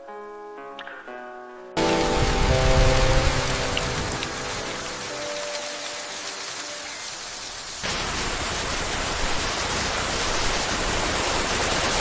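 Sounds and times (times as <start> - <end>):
heavy rain falling: 1.8 - 12.0.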